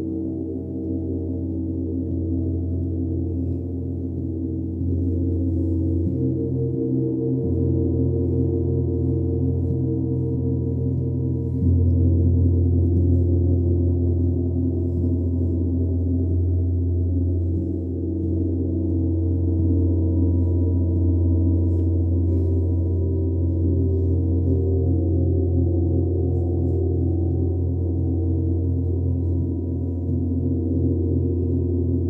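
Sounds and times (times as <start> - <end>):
sound-bath instruments humming: 0.0 - 32.0.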